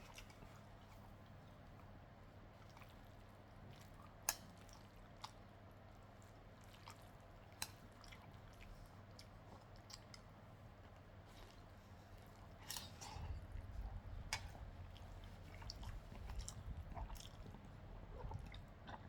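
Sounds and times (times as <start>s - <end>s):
chewing noodles and crispy pork: 0.0s - 19.0s.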